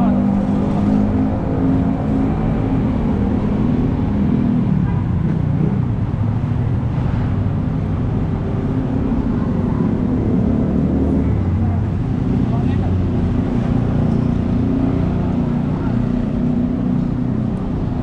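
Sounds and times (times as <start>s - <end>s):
road noise: 0.0s - 18.0s
vehicle engines running: 0.0s - 18.0s.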